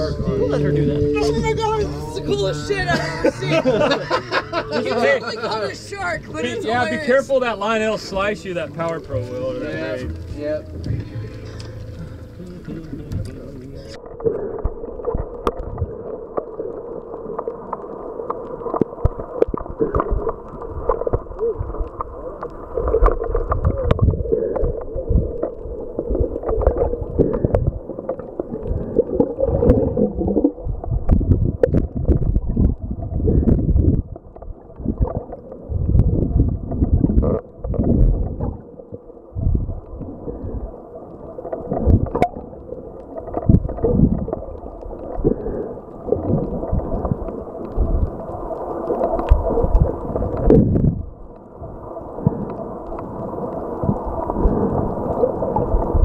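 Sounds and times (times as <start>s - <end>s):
underwater water rush and gurgle: 0.0s - 56.0s.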